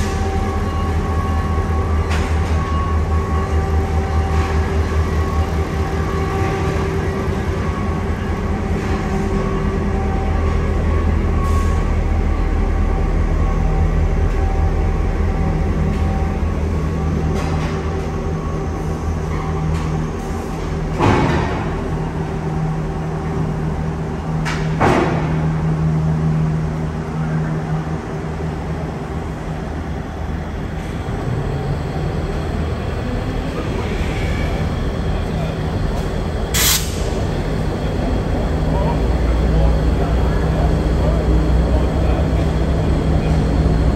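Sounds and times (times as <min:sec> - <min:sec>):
diesel locomotive engine idling: 0:00.0 - 0:43.9.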